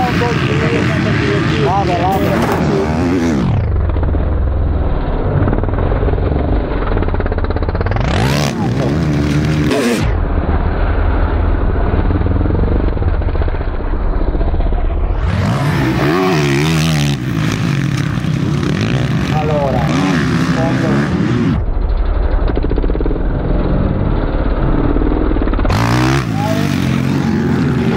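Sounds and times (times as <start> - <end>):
continuous low rumble: 0.0 - 27.9
dirt bike engines revving: 0.0 - 27.9.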